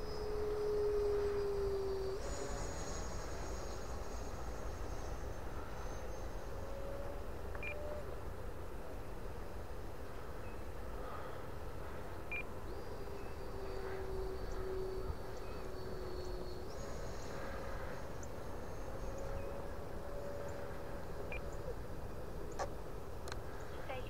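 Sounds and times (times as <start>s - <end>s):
electric ducted fan whine: 0.0s - 24.0s.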